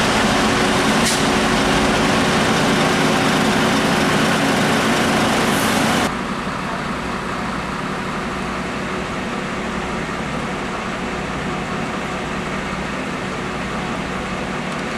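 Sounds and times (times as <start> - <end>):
diesel engines idling: 0.0 - 14.9.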